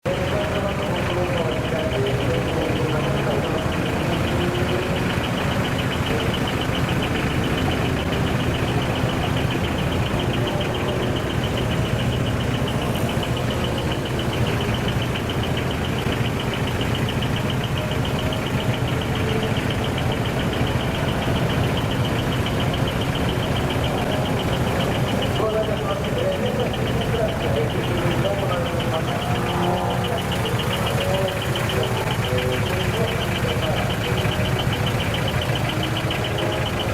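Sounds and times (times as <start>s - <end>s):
diesel truck engines idling: 0.0s - 36.9s.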